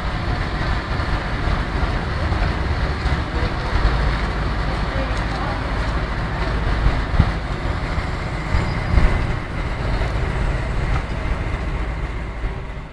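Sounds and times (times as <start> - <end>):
diesel engines running: 0.0 - 12.9.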